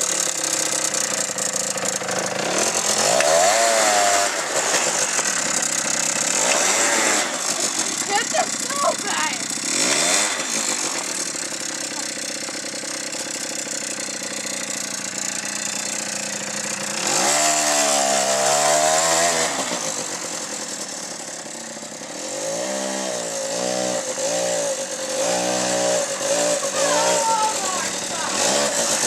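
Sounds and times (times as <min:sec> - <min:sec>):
atv throttle blips: 0:00.0 - 0:29.0
small atv engine running: 0:00.0 - 0:29.0.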